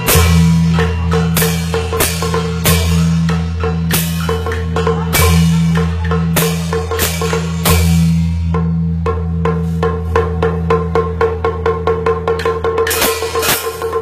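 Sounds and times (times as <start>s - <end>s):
small hand cymbals crashing: 0.0s - 9.8s, 12.3s - 14.0s
drums struck with sticks: 0.0s - 14.0s.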